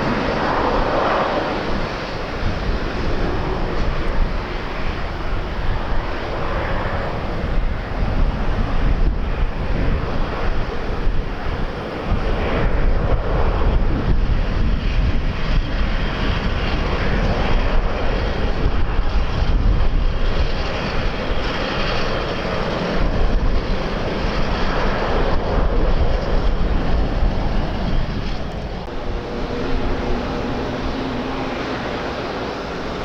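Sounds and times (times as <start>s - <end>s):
airliner engine noise: 0.0s - 33.0s
wind buffeting microphone: 0.0s - 33.0s.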